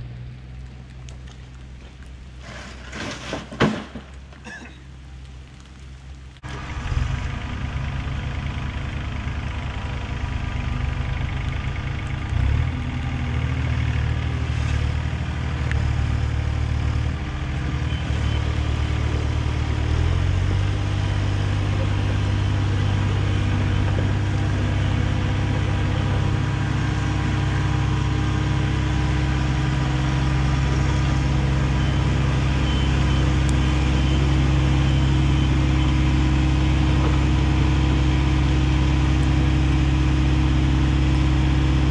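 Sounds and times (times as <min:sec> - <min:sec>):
excavator diesel engine: 0:00.0 - 0:05.3, 0:06.3 - 0:41.9
tractor engine driving: 0:00.0 - 0:41.9.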